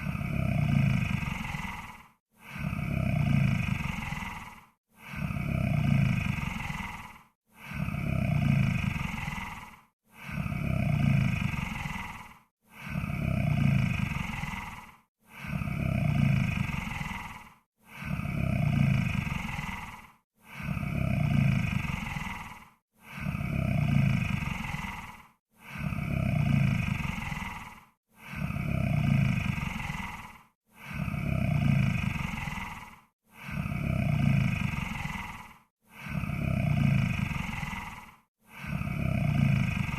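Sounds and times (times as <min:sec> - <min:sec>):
deep growling snore: 0:00.0 - 0:39.9.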